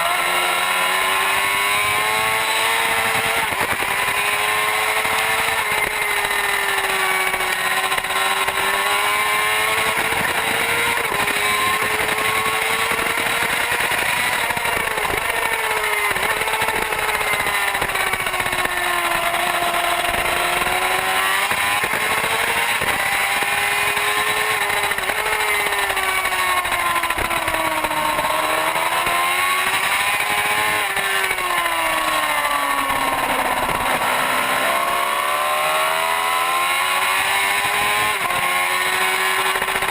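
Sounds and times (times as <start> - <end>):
superbike engine revving: 0.0 - 39.9.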